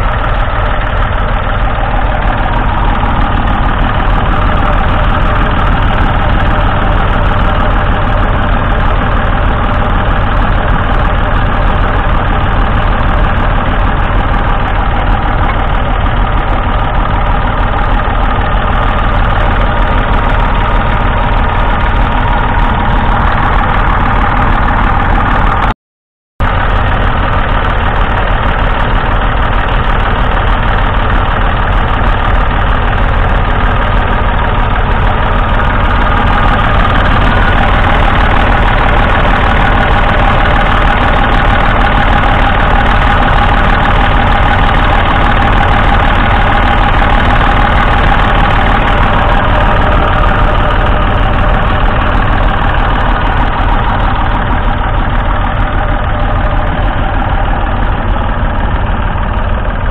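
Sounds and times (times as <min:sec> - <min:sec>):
diesel engine idling: 0:00.0 - 0:25.8, 0:26.4 - 0:59.9.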